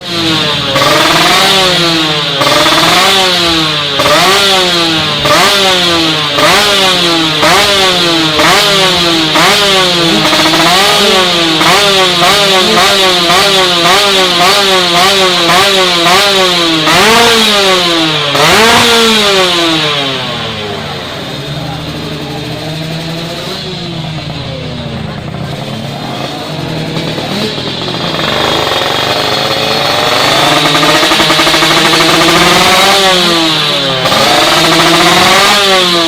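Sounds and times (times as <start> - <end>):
two-stroke motorcycle engine revving: 0.0 - 36.0.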